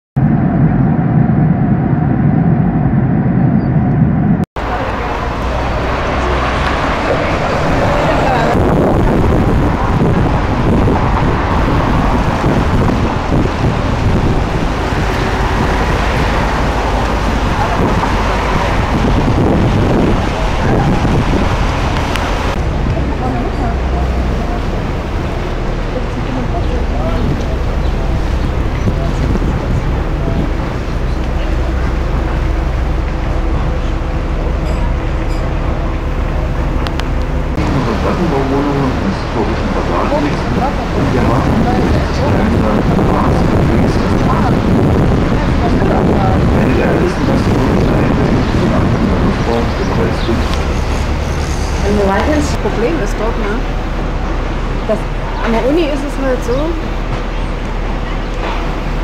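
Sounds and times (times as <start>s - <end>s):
boat engine running: 0.2s - 59.0s
wind rumble on microphone: 0.2s - 59.0s.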